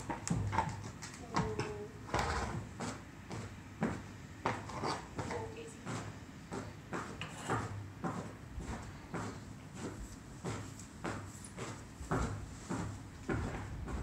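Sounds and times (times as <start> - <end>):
hooves shifting on concrete: 0.0 - 14.0.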